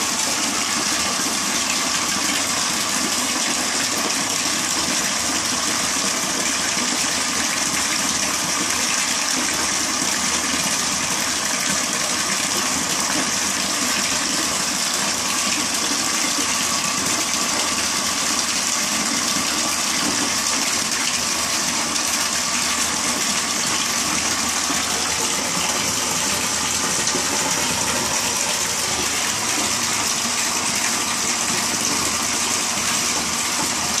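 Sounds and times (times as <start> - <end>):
water running into tub: 0.0 - 34.0.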